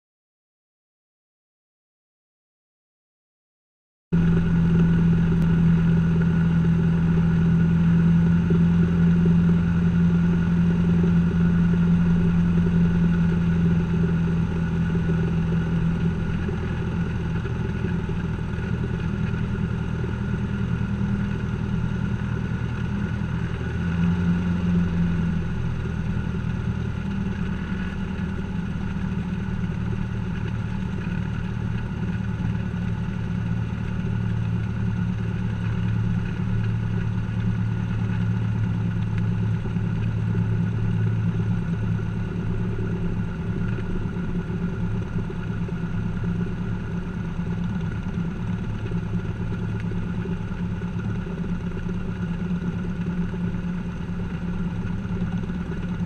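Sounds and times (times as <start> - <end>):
propeller engine drone: 4.1 - 56.0.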